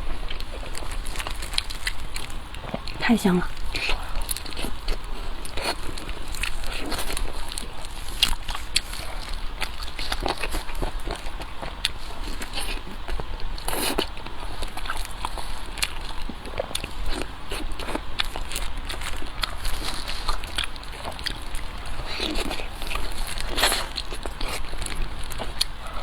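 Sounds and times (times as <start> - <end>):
chewing and mouth sounds: 0.0 - 26.0.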